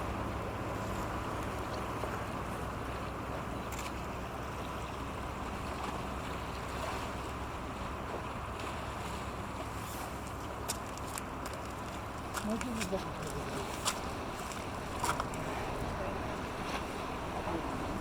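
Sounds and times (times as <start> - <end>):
boat engines running: 0.0 - 18.0
water washing from hull: 0.0 - 18.0.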